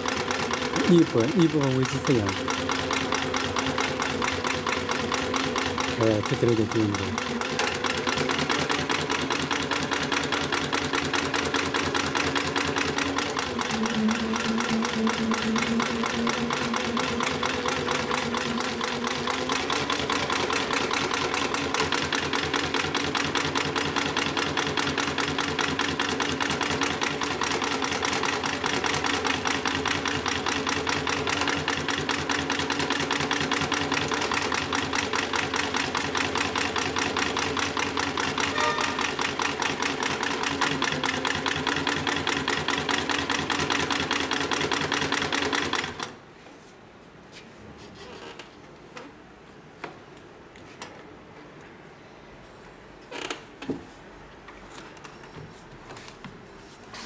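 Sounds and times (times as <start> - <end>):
sewing machine stitching: 0.0 - 46.2.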